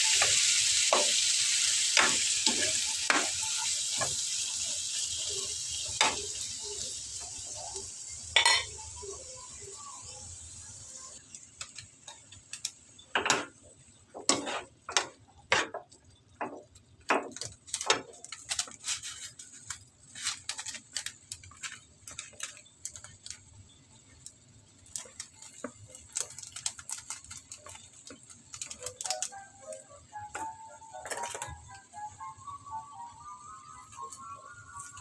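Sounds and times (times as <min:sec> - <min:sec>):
squid frying pops and crackles: 0:00.0 - 0:33.1
faint sizzle: 0:00.0 - 0:35.0.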